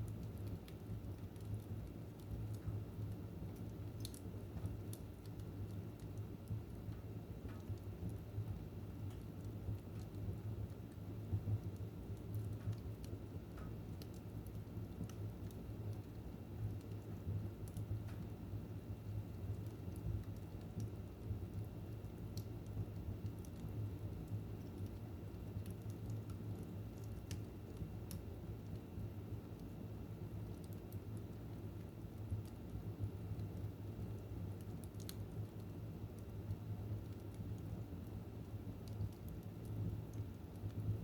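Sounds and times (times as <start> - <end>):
fire crackling and popping: 0.0 - 41.0.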